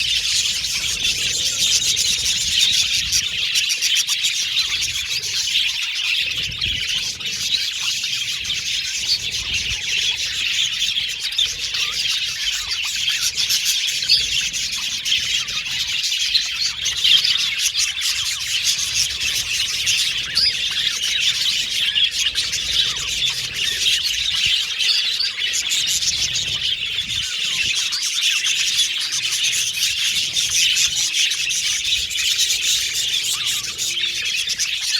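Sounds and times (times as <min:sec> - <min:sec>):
budgerigars chirping and warbling: 0:00.0 - 0:34.9.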